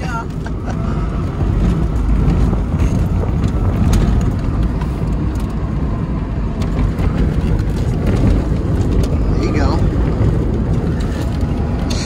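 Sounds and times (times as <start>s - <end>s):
road and tyre noise: 0.0s - 12.0s.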